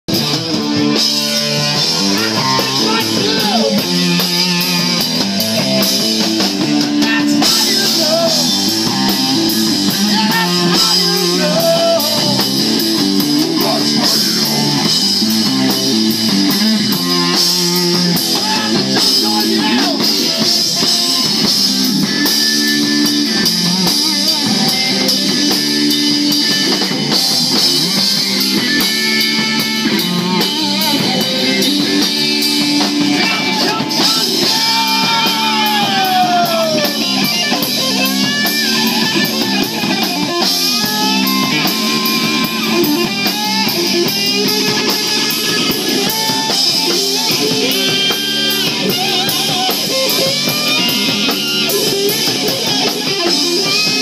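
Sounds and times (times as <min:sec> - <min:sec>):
bass guitar: 0:00.0 - 0:54.0
drum kit: 0:00.1 - 0:54.0
electric guitar: 0:00.1 - 0:54.0.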